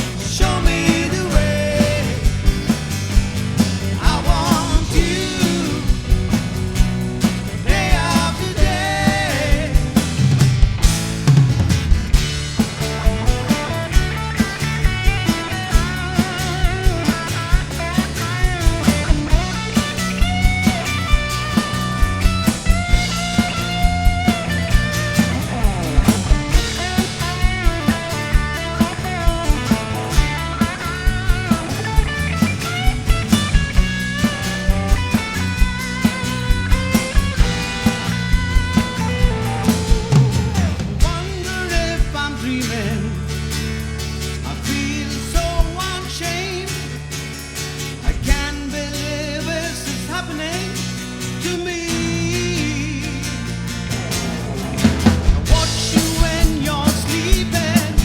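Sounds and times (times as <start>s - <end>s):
drum kit steady beat: 0.0s - 43.0s, 45.3s - 46.2s, 53.8s - 58.0s
bass guitar: 0.0s - 58.0s
electric guitar with bending notes: 0.0s - 58.0s.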